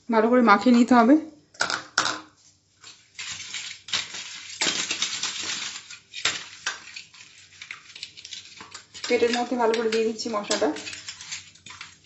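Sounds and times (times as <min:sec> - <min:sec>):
hands rubbing fish in metal bowl: 0:02.3 - 0:12.0.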